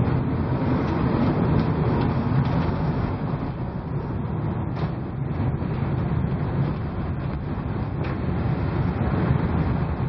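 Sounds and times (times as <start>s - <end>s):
storm wind on microphone: 0.0s - 10.0s
waves breaking over ship bow: 0.0s - 10.0s.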